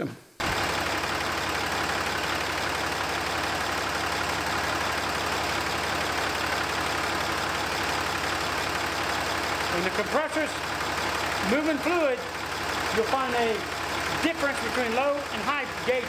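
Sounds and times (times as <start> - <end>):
air-conditioning compressor running: 0.4 - 16.0
pickup engine idling: 0.4 - 16.0.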